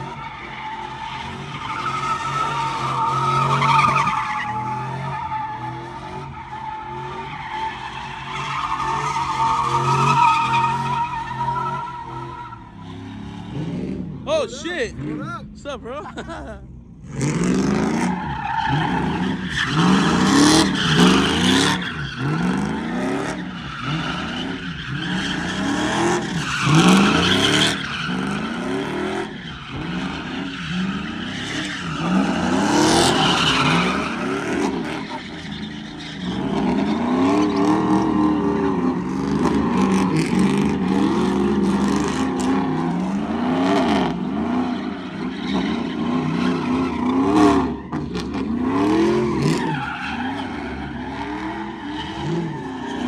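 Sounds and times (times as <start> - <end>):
truck engines revving: 0.0 - 53.0.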